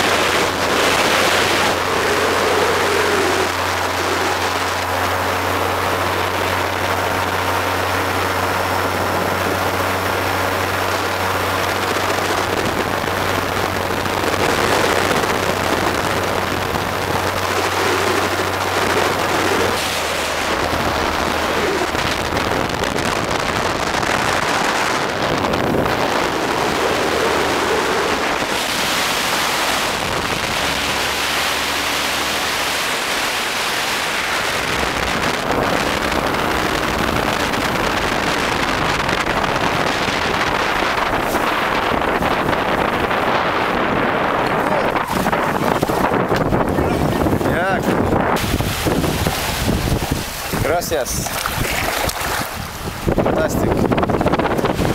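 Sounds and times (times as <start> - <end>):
motorboat engine drone: 0.0 - 54.9
wind buffeting microphone: 0.0 - 54.9.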